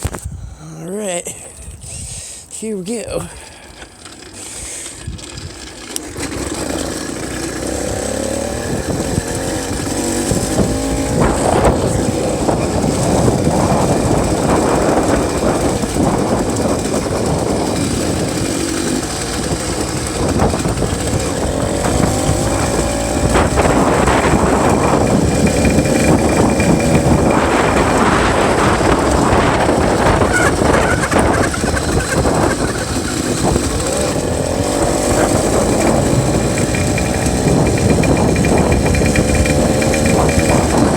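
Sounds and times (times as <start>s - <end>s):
two-stroke bicycle engine running: 3.3s - 40.9s.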